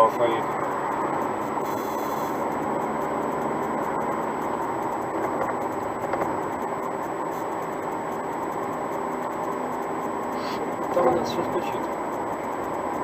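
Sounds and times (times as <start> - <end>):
car engine running: 0.0 - 13.0
road and tyre noise: 0.0 - 13.0.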